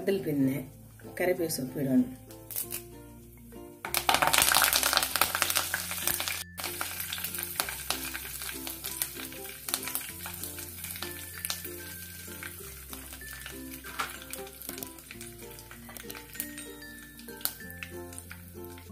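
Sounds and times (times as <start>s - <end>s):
background music with bass line: 0.0s - 18.9s
spices sizzling in hot oil: 2.2s - 18.9s.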